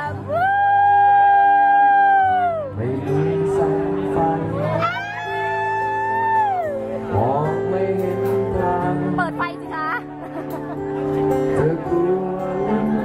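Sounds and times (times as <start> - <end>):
person singing: 0.0 - 9.6, 11.4 - 13.0
acoustic guitars strumming chords: 2.0 - 13.0.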